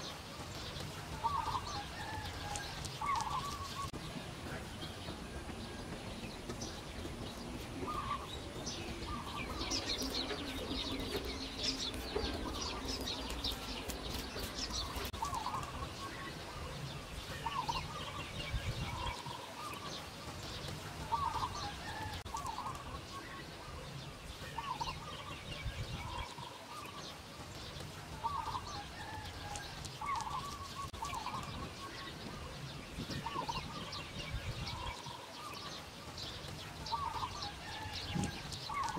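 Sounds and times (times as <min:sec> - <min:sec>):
higher bird chirping: 0:00.0 - 0:38.9.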